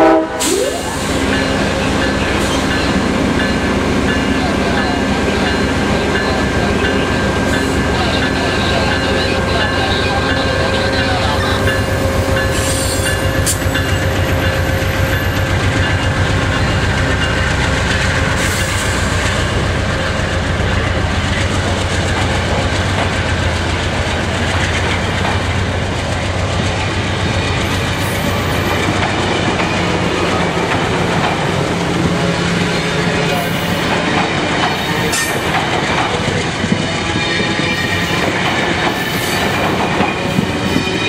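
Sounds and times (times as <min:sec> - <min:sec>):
train wheels rumbling on track: 0:00.0 - 0:41.0.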